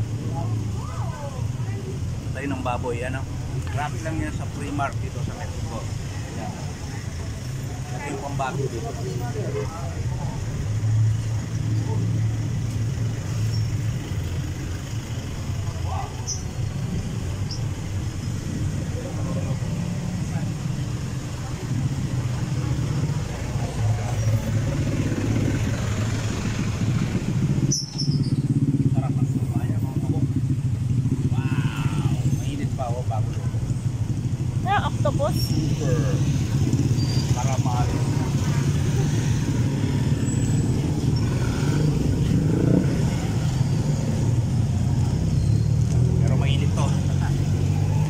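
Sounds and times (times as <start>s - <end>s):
motorcycle and car engines: 0.0s - 48.0s.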